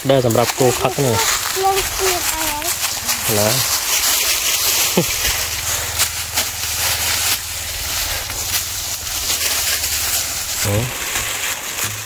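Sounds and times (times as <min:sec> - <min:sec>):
footsteps crunching dry leaves: 0:00.0 - 0:12.0
steady hiss: 0:00.0 - 0:12.0.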